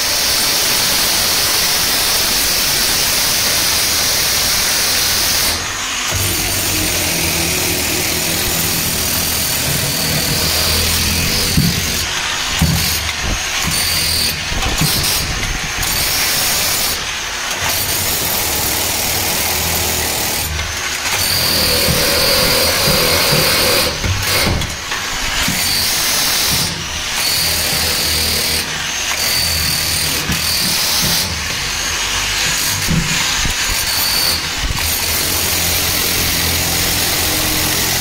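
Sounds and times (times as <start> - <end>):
power tool breaking cement: 0.0 - 38.0.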